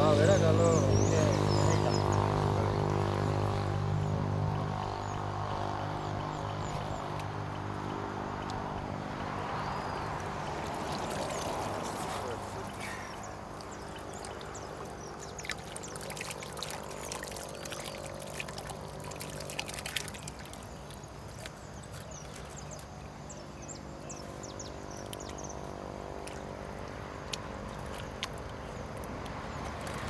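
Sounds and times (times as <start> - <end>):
water splashing and trickling: 0.0 - 30.0.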